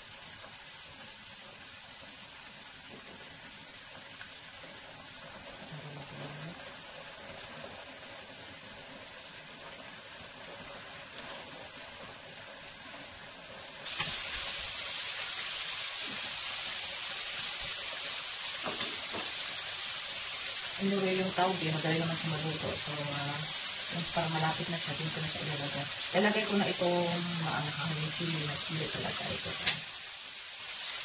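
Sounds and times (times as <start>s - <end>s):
beans frying in oil: 0.0s - 31.0s.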